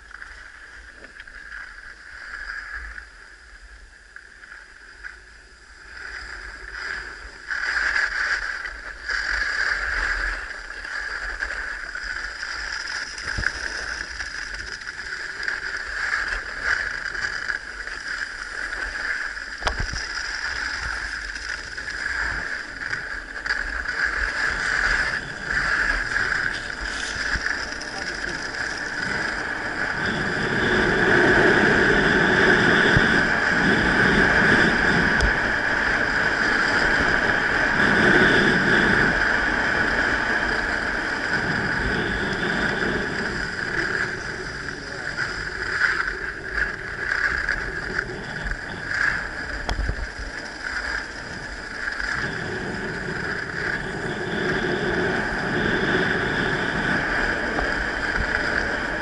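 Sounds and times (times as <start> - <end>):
wind rumbling on microphone: 0.0 - 59.0
skis scraping over packed snow: 4.6 - 59.0.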